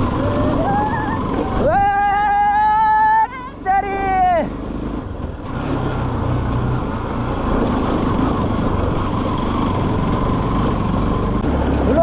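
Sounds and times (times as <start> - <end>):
motorcycle engine running: 0.0 - 12.0
road rumble: 0.0 - 12.0.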